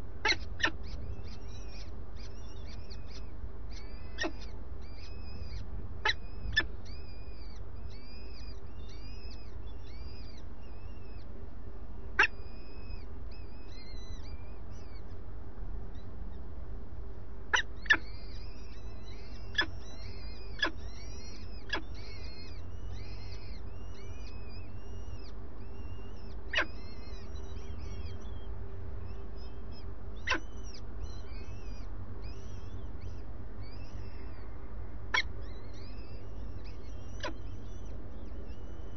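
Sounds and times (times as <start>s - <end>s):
falcon chicks begging calls: 0.0s - 15.2s, 17.4s - 34.5s, 35.1s - 38.9s
faint steady hum: 0.0s - 38.9s.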